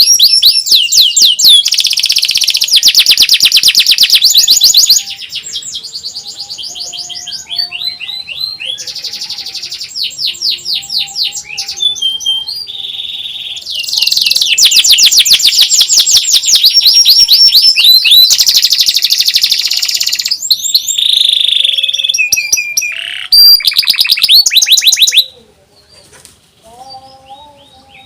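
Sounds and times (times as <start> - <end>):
canary rapid trill: 0.0 - 25.4
canary varied song phrases: 0.0 - 28.0.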